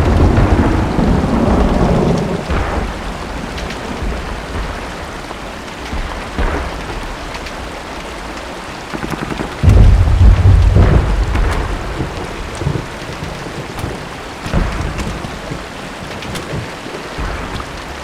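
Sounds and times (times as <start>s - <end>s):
deep rumble: 0.0s - 7.0s, 9.0s - 18.0s
steady rain: 0.0s - 18.0s.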